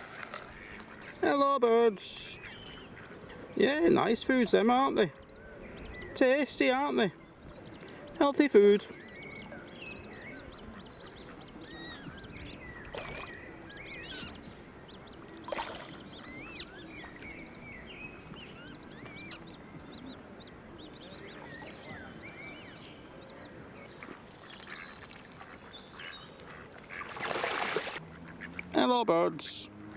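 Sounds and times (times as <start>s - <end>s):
ducks calling: 0.3s - 1.4s, 2.2s - 22.6s, 23.4s - 29.0s.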